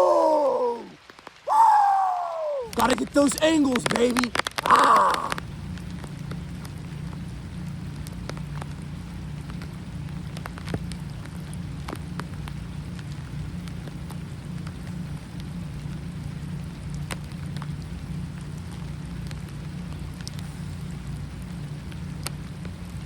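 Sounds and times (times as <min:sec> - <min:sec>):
constant low rumble: 0:00.0 - 0:23.0
rain drops striking: 0:00.0 - 0:23.0.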